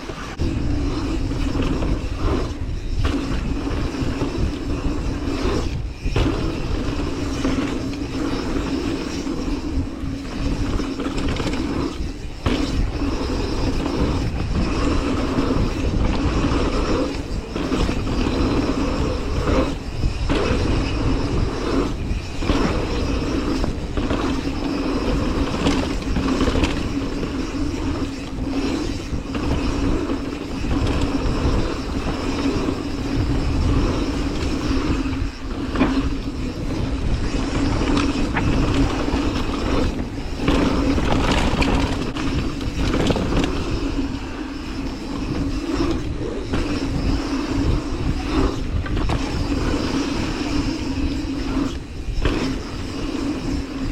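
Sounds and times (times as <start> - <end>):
bicycle freehub buzzing: 0.0 - 53.9
bike tyres rumbling over dirt: 0.0 - 53.9.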